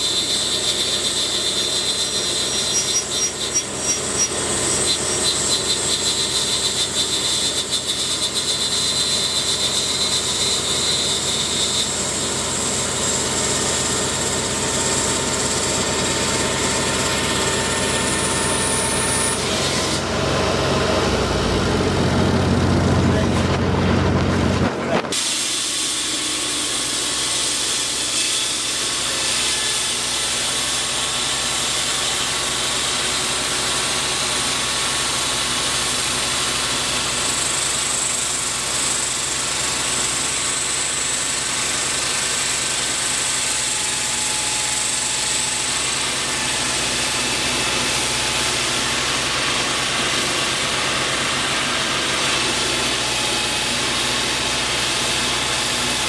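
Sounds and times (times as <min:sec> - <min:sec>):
machine engine hum and hiss: 0:00.0 - 0:56.0.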